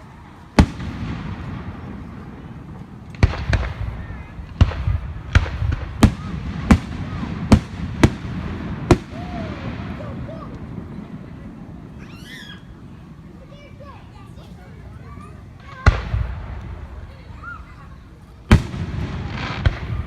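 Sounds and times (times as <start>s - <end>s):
fireworks bangs: 0.0s - 14.4s, 15.1s - 20.0s.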